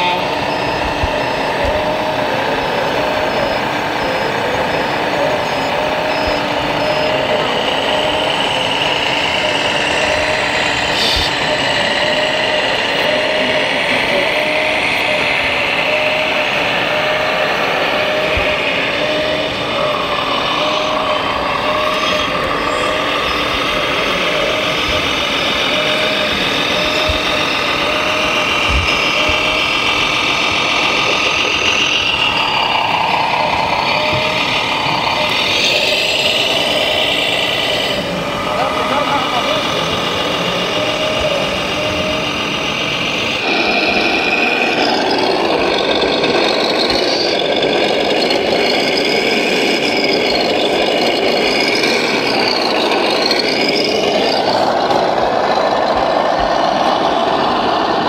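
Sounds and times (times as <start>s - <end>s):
busy hall crowd noise: 0.0s - 58.0s
simulated diesel truck engine: 0.0s - 58.0s.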